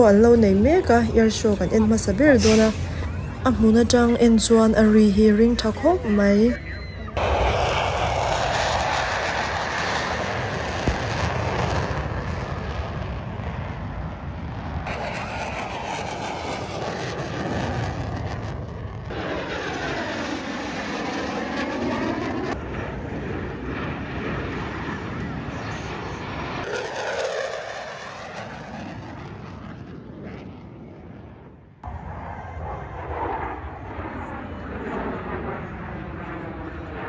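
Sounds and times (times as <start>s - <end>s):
airplane engines roaring past: 0.0s - 37.0s.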